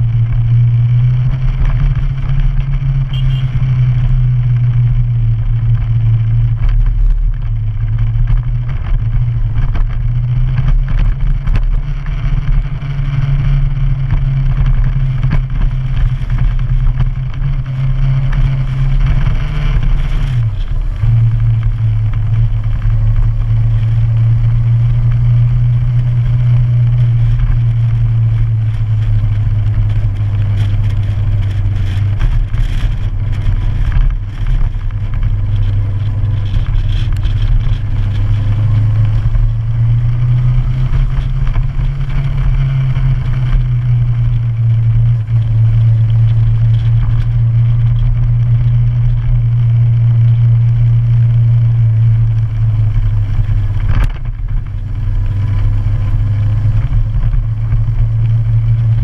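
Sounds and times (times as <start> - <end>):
motorcycle engine droning: 0.0 - 59.0.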